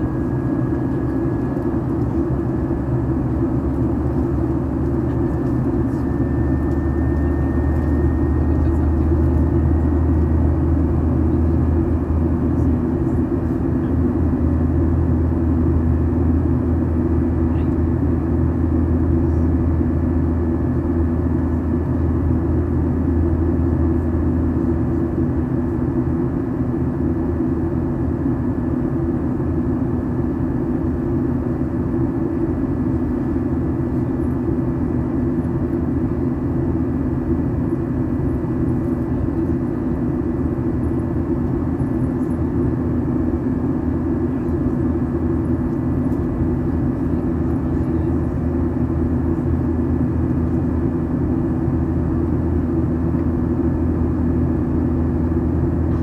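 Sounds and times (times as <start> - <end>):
airliner engines drone: 0.0 - 56.0.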